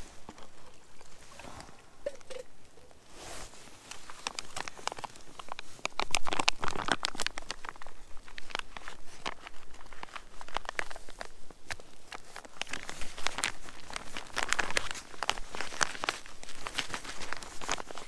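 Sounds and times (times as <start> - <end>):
crunching and crinkling clicks: 0.0 - 18.0.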